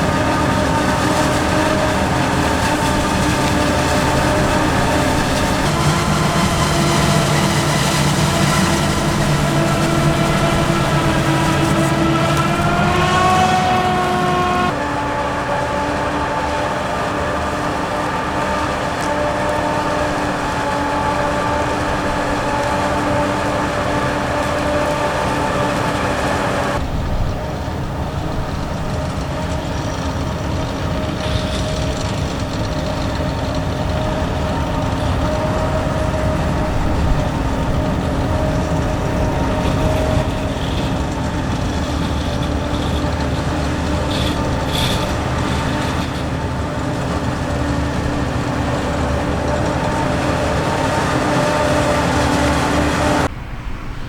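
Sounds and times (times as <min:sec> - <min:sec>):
diesel farm machinery running: 0:00.0 - 0:54.0
machine droning: 0:00.0 - 0:54.0.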